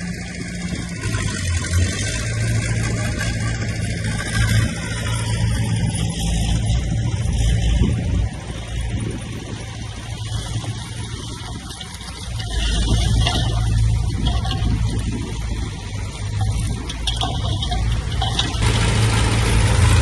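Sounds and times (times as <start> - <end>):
heavy diesel machinery droning: 0.0 - 20.0.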